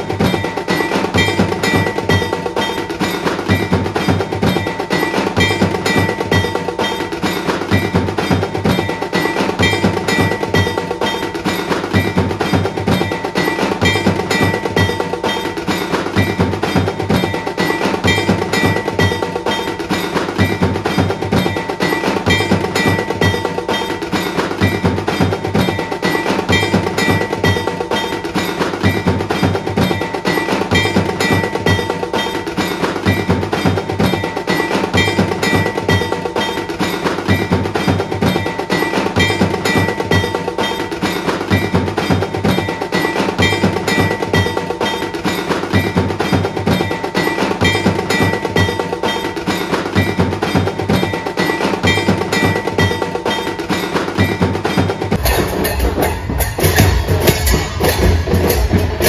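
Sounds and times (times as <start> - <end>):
drums beating: 0.0 - 59.0
metallic clanging: 0.0 - 59.0.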